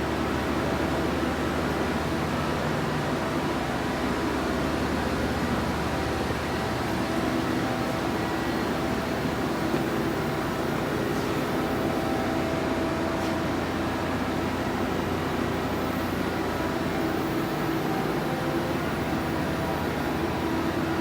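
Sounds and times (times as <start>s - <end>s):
industrial machinery hum: 0.0s - 21.0s.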